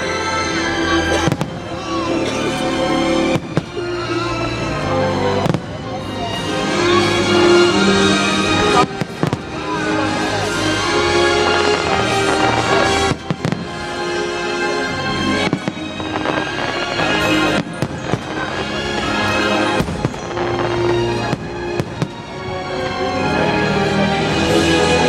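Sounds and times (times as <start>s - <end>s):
music soundtrack: 0.0s - 25.0s
fireworks bursting: 0.1s - 23.0s.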